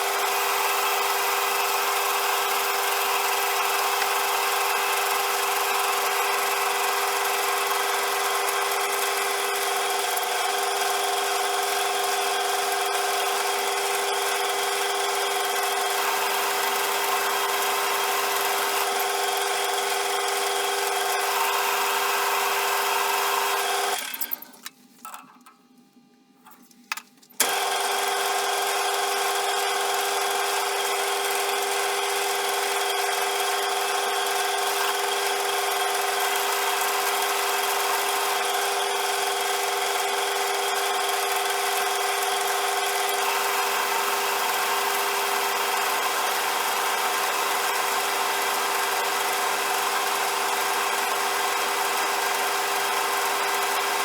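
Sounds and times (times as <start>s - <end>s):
metal lathe motor whine: 0.0s - 24.4s, 27.4s - 54.0s.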